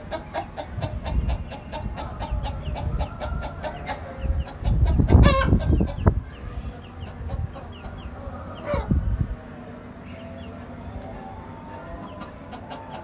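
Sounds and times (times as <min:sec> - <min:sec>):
hen clucking: 0:00.0 - 0:10.8, 0:11.8 - 0:13.0
chicks peeping: 0:00.0 - 0:13.0.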